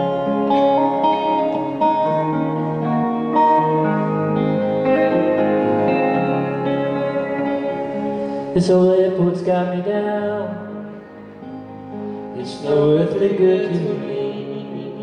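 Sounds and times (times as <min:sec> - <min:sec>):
acoustic guitar: 0:00.0 - 0:15.0
electric guitar: 0:00.0 - 0:15.0.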